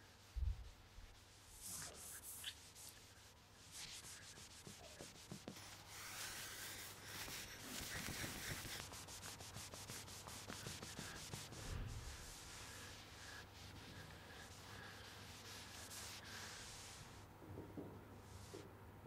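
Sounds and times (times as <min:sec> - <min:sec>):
hand scrubbing tiled floor: 0:00.0 - 0:17.3.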